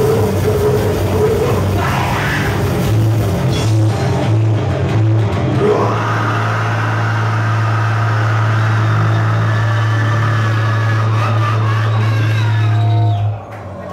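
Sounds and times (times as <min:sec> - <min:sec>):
distorted guitar and bass drone: 0:00.0 - 0:13.5.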